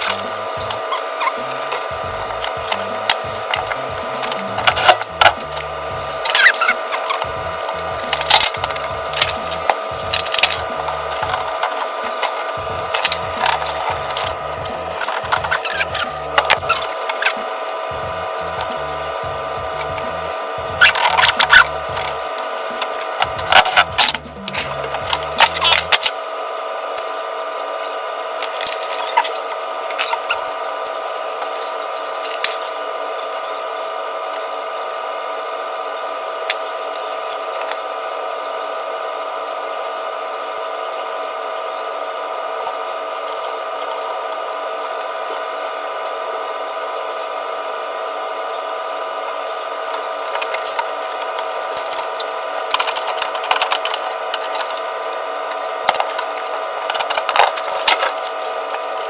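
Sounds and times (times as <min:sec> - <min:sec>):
steady multi-tone hum: 0:00.0 - 0:59.0.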